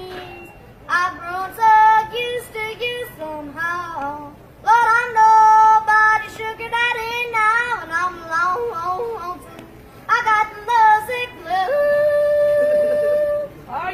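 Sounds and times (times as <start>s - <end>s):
boy yodeling: 0.0s - 9.5s, 10.1s - 13.6s.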